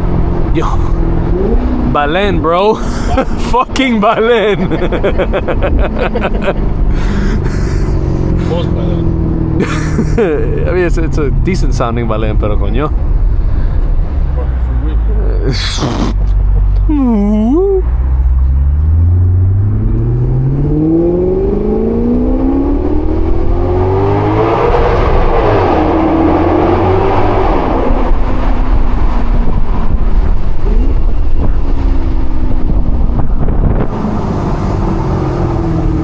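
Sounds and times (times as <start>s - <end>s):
car engine accelerating hard: 0.0s - 17.2s, 17.8s - 36.0s
wind and road noise: 0.0s - 36.0s.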